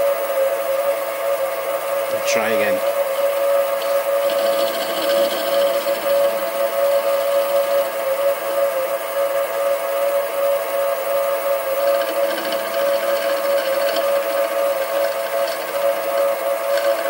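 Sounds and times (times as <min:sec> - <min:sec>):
lathe running with high whine: 0:00.0 - 0:17.0.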